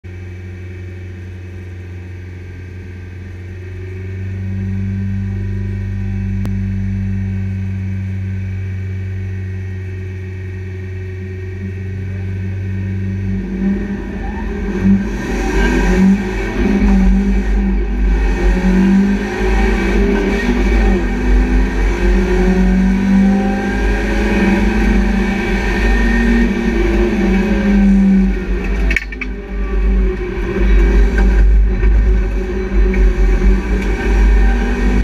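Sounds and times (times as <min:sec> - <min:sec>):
race car engine revving: 0:03.4 - 0:35.0.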